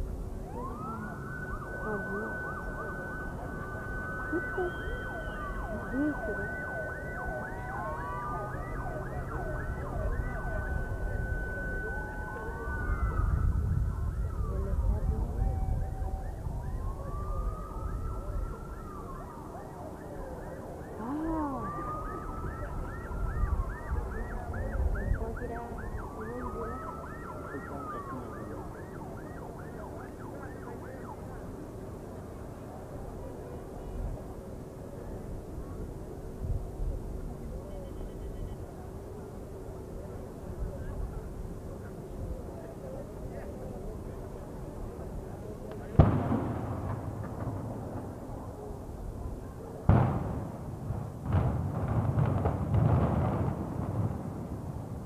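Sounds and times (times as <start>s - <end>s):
crowd murmur: 0.0s - 55.0s
sirens wailing: 0.0s - 55.0s.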